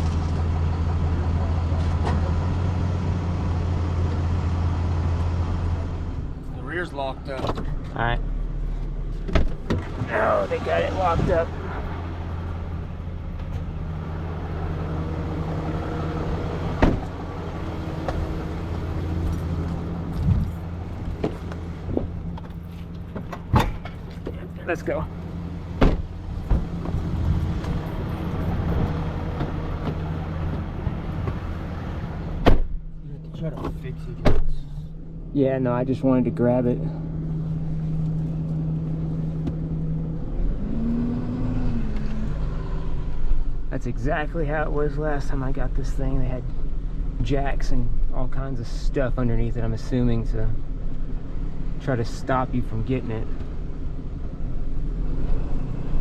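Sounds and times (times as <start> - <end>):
tow truck engine running: 0.0 - 56.0
low rumble: 5.6 - 51.8.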